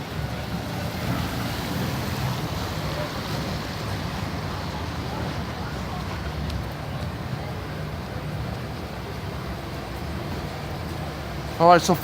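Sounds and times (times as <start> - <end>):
fire engines idling: 0.0 - 12.0.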